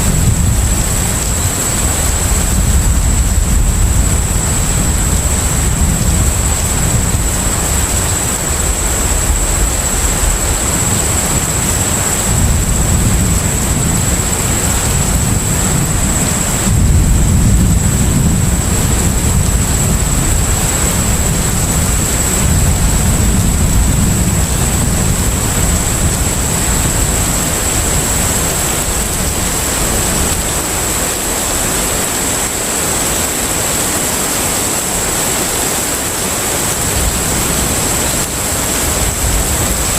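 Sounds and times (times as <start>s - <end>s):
deep ship rumble: 0.0s - 33.9s
high steady whine: 0.0s - 39.9s
rushing water hiss: 0.0s - 39.9s.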